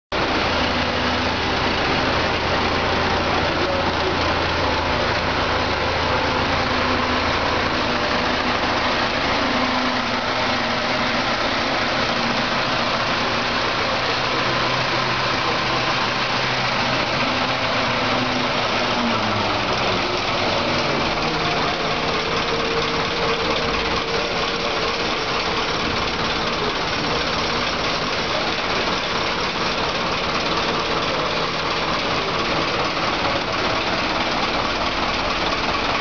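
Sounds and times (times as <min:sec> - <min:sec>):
forklift engine running: 0:00.1 - 0:36.0.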